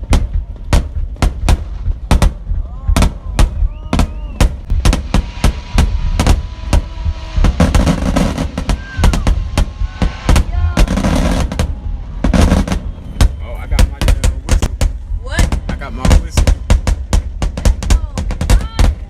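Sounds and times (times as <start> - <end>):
faint firework whistles: 0.0 - 19.0
fireworks banging: 0.0 - 19.0.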